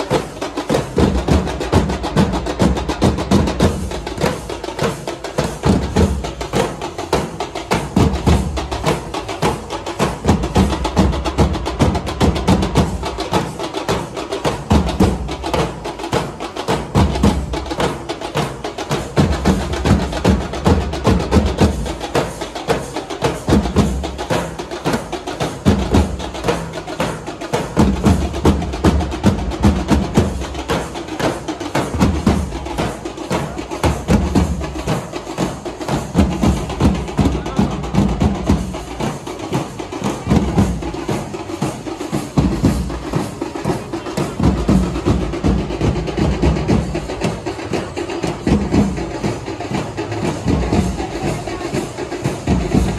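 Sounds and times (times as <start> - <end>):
fast dense drumming: 0.0 - 52.9
heavy low drum beats: 0.0 - 52.9.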